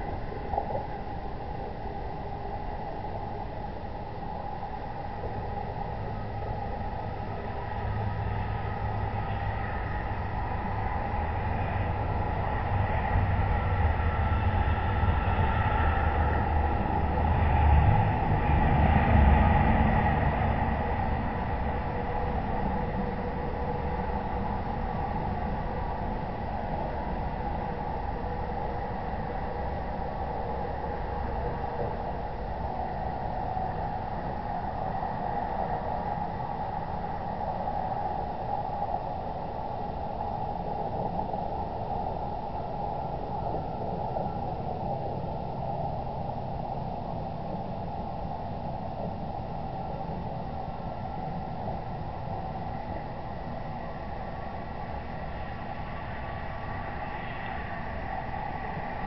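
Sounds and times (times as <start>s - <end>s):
steady low rumble with hiss: 0.0s - 59.0s.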